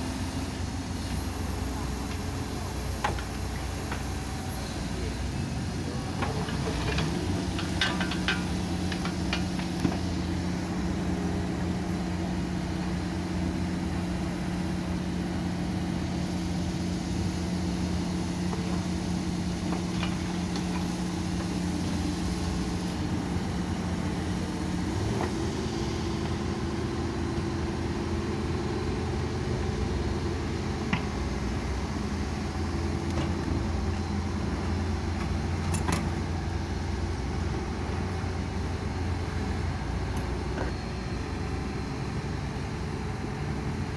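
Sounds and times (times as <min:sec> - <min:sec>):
diesel engine running at low revs: 0:00.0 - 0:43.9.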